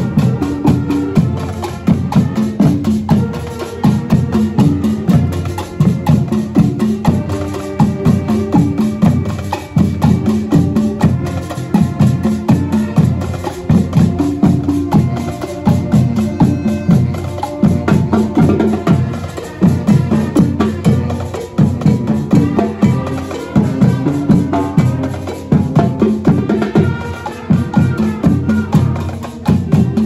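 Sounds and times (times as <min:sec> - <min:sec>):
drums beating fast rhythm: 0:00.0 - 0:30.0
marching band playing: 0:00.0 - 0:30.0.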